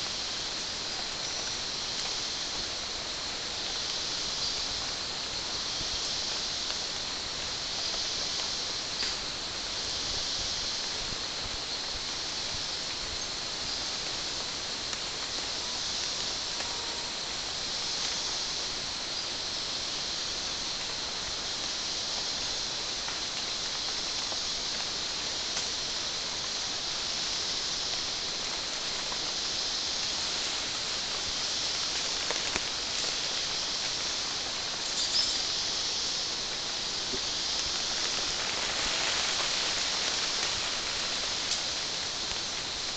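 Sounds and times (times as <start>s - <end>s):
rainforest insects chorus: 0.0s - 42.9s.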